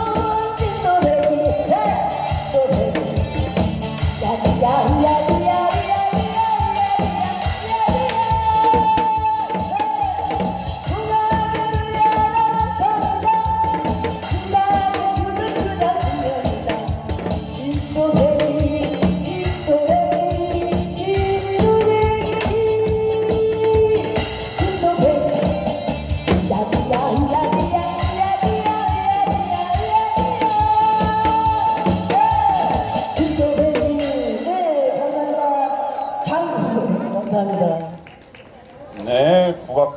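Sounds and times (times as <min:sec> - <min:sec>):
woman singing with bending notes: 0:00.0 - 0:37.0
amplified band with drum beat: 0:00.0 - 0:39.9.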